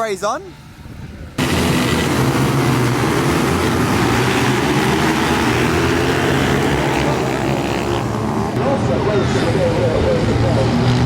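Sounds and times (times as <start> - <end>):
wind and road noise: 0.0 - 11.0
pit bike engine buzzing: 1.4 - 11.0.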